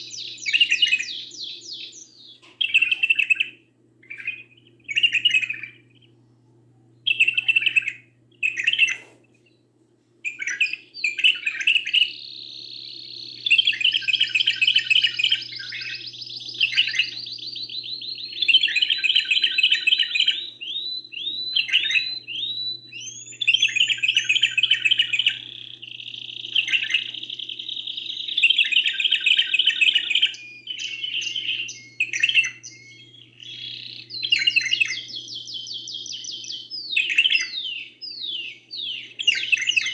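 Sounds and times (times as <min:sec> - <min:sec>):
canary singing trills: 0:00.0 - 0:39.9
faint steady hum: 0:00.0 - 0:39.9.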